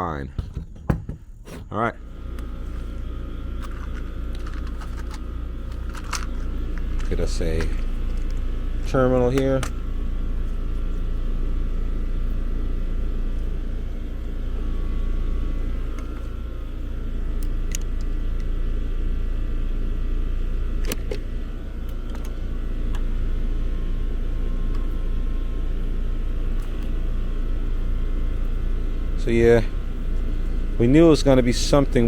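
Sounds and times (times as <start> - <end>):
low mechanical rumble: 0.0 - 32.0.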